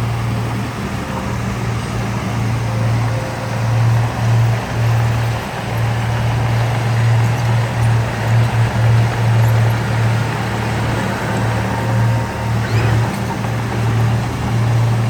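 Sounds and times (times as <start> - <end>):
heavy diesel machinery engine: 0.0 - 15.0.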